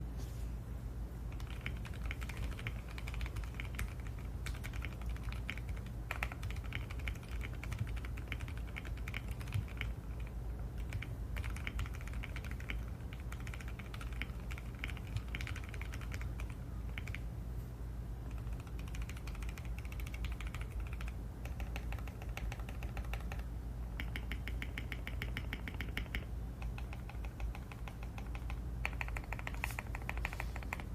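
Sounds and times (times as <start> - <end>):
mechanical keyboard typing: 1.3 - 17.3, 18.3 - 30.9.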